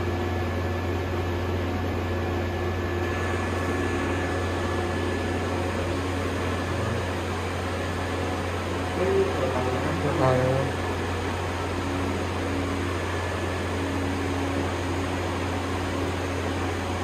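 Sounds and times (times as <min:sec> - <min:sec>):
machine hum and fan whir: 0:00.0 - 0:17.0.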